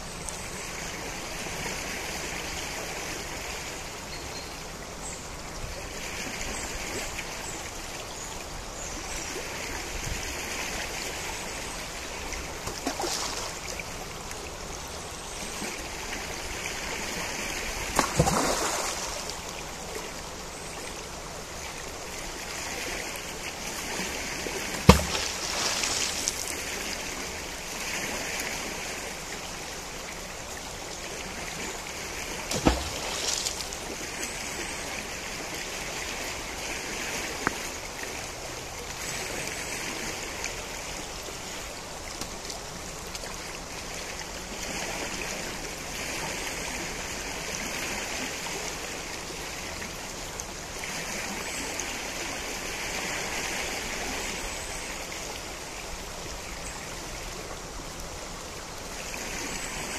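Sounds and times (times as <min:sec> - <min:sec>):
river flowing: 0:00.0 - 0:59.9.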